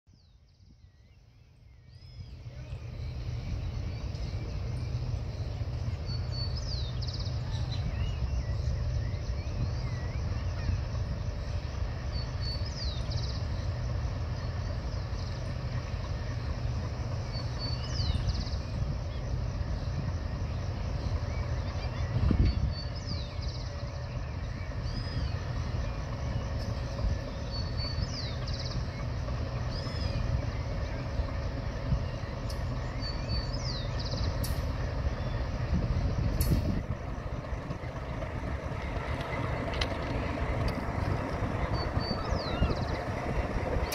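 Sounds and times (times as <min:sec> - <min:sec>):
bird chirping: 0:00.1 - 0:43.9
distant diesel locomotive rumbling: 0:00.1 - 0:43.9.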